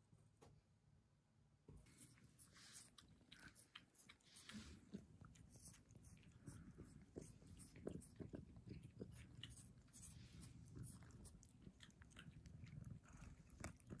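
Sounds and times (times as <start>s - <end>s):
cat chewing on fingers: 1.9s - 14.0s.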